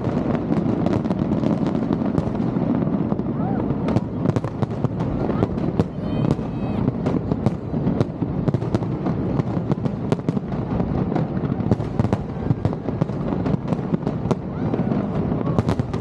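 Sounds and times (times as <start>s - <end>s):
fireworks bangs: 0.0s - 16.0s
rumble of fireworks bursts: 0.0s - 16.0s.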